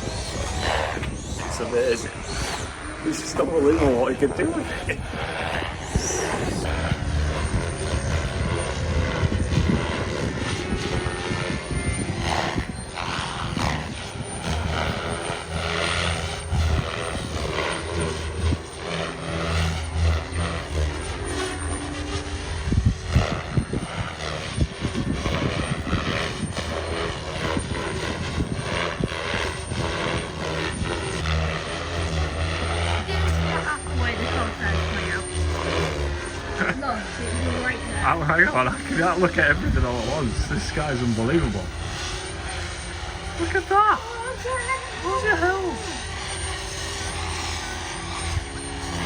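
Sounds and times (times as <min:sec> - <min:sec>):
model aircraft motor and propeller: 0:00.0 - 0:49.0.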